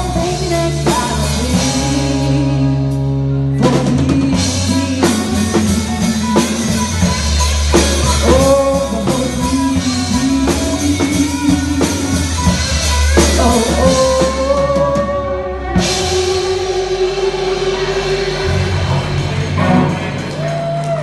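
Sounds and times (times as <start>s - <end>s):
drum kit: 0.0s - 21.0s
electric guitar: 0.0s - 21.0s
heavy bass: 0.0s - 21.0s
person singing: 0.0s - 21.0s.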